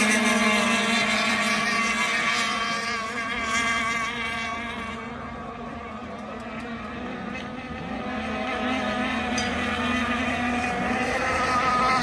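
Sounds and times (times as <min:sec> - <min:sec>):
model boat engines buzzing: 0:00.0 - 0:12.0.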